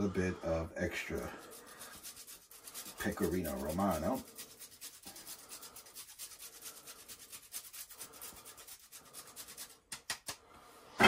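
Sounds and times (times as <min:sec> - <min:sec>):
cheese grating rasps: 0:00.9 - 0:10.1.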